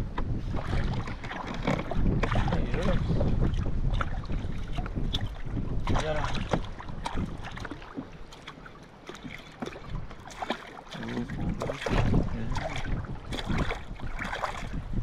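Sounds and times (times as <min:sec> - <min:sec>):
wind buffeting microphone: 0:00.0 - 0:08.3, 0:09.2 - 0:15.0
water lapping against kayak hull: 0:00.0 - 0:15.0.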